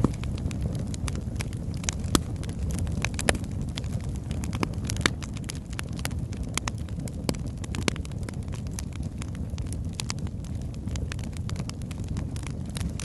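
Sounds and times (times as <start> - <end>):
burning wood popping and snapping: 0.0 - 13.0
low rumble of flames: 0.0 - 13.0.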